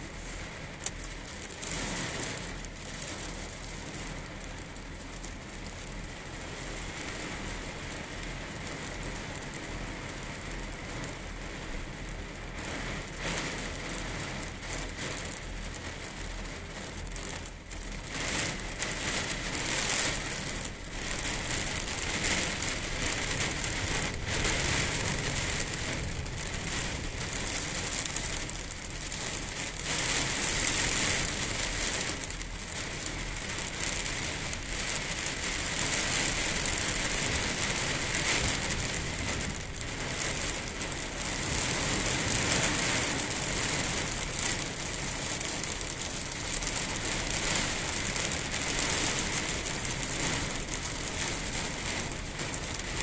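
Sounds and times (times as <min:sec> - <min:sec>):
heavy rain on puddled ground: 0:00.0 - 0:53.0.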